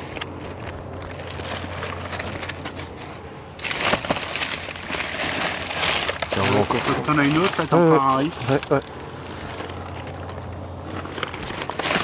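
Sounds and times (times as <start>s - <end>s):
low steady hum: 0.0s - 12.0s
plastic bags rustling and crinkling: 0.0s - 12.0s.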